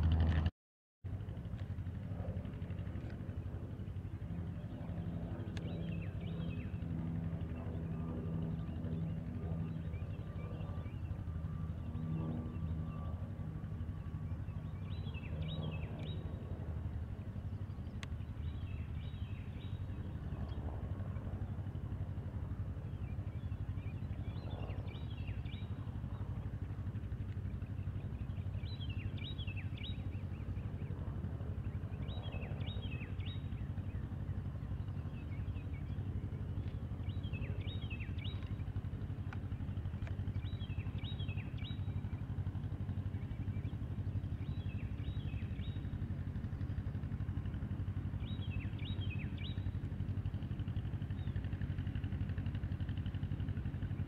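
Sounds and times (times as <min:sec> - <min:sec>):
plane piston engine droning: 0:01.1 - 0:54.0
songbird singing: 0:02.9 - 0:54.0.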